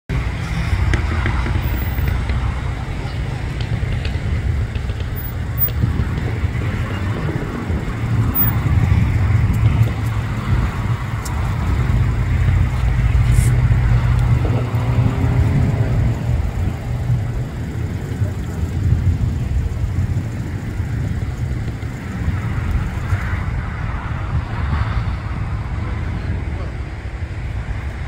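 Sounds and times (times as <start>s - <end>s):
distant jet engines rumbling: 0.1s - 28.0s
road traffic: 0.1s - 28.0s.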